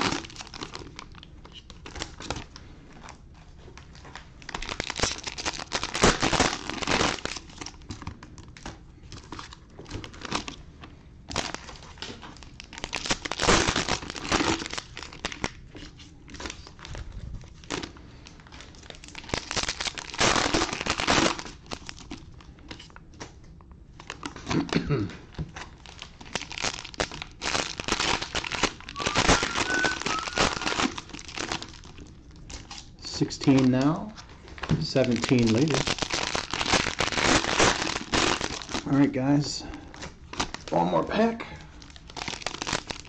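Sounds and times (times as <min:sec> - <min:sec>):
cellophane wrappers crinkling: 0:00.0 - 0:10.6, 0:11.3 - 0:24.7, 0:25.3 - 0:43.0.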